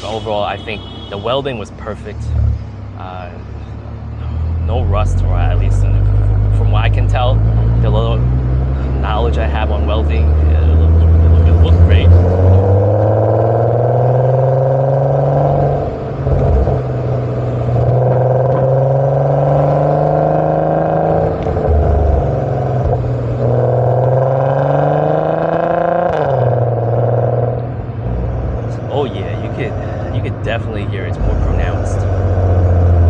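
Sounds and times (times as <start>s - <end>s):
car engine accelerating through gears: 4.0s - 33.0s.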